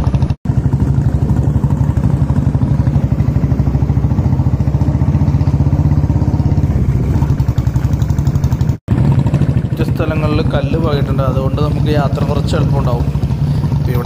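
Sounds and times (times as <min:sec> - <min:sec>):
motorcycle engines thumping: 0:00.0 - 0:14.0.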